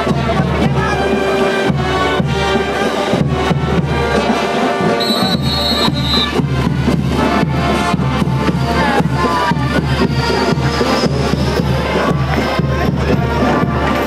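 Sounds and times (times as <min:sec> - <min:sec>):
drums and cymbals beat: 0:00.0 - 0:14.0
trumpets and trombones: 0:00.0 - 0:14.0.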